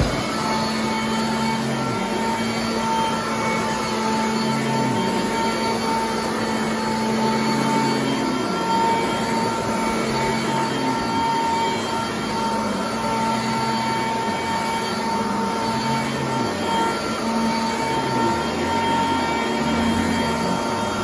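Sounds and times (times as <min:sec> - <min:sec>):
upright vacuum motor whine: 0:00.0 - 0:21.0.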